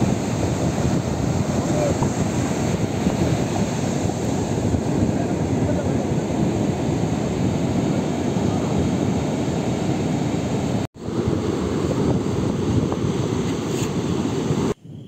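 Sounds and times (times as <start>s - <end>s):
ocean surf breaking: 0.0s - 14.8s
wind buffeting microphone: 0.0s - 15.0s.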